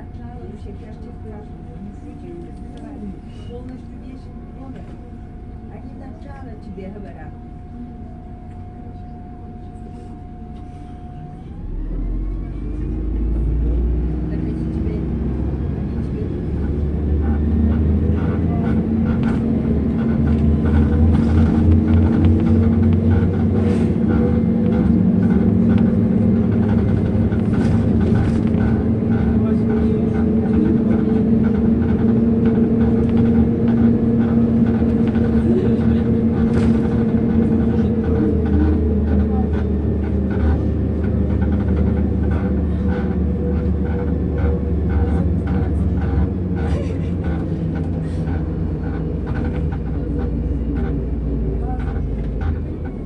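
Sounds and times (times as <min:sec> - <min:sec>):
bus engine drone: 0:00.0 - 0:53.0
faint passenger voices: 0:00.0 - 0:53.0
road noise: 0:00.0 - 0:53.0.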